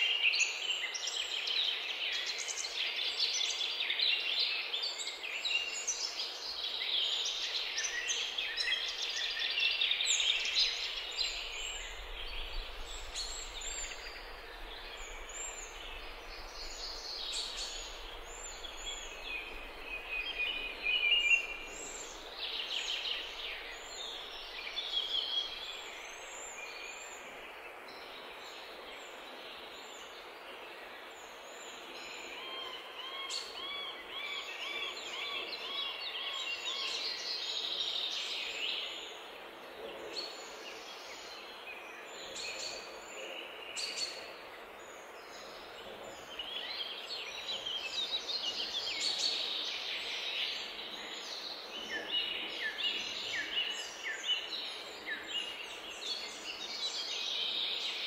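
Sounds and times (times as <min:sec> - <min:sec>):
outdoor background: 0:00.0 - 0:58.0.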